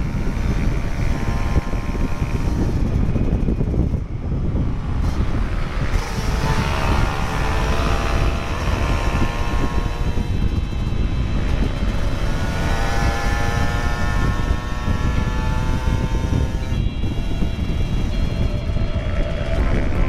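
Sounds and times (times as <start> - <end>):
motorcycle engine running: 0.0 - 20.0
wind rumble on microphone: 0.0 - 20.0.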